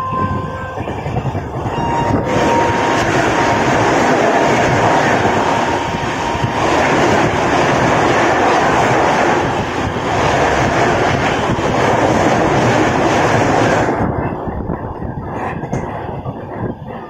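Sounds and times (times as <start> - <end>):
train coaches rushing past: 0.0 - 14.4.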